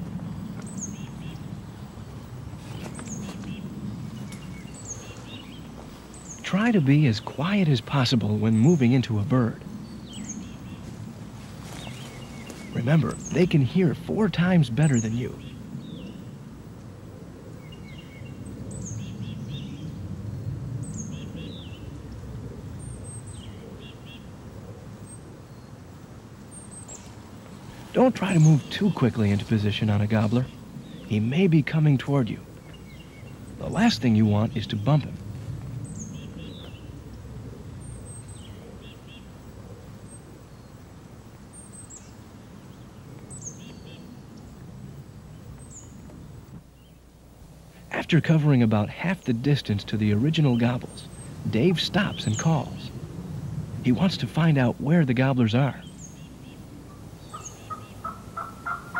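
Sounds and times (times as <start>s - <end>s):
low background noise: 0.0s - 58.9s
songbirds chirping: 0.0s - 58.9s
steady outdoor background noise: 0.0s - 58.9s.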